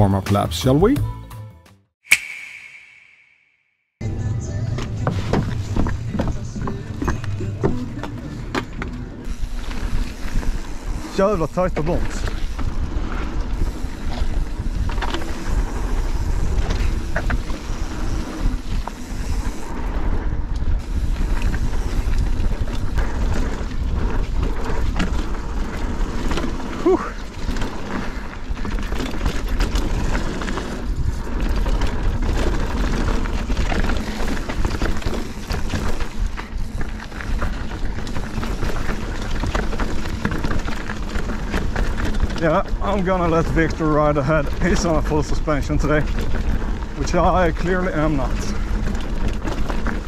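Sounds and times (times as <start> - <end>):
bike tyre and wind rumble: 4.0 - 50.0
bike clattering over bumps: 5.1 - 50.0.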